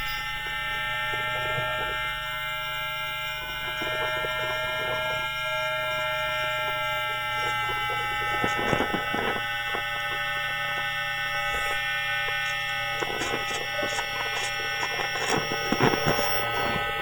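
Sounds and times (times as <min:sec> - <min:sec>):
electrical buzzing hum: 0:00.0 - 0:17.0
crackling clicks: 0:03.0 - 0:17.0.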